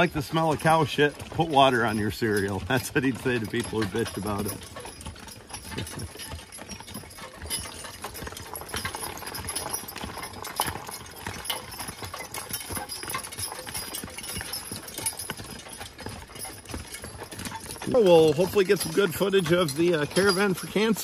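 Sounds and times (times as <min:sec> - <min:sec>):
hooves clopping: 0:00.0 - 0:21.0
knocks and clinks: 0:00.0 - 0:21.0.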